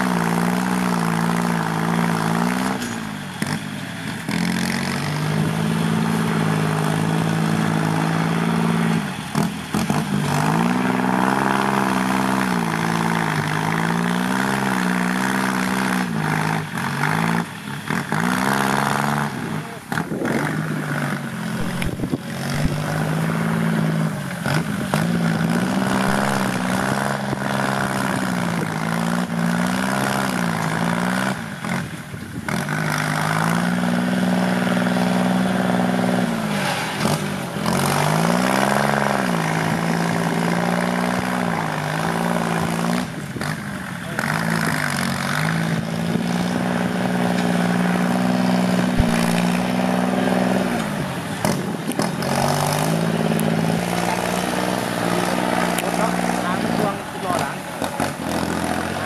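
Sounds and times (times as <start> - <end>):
tractor diesel engine racing: 0.0 - 59.0.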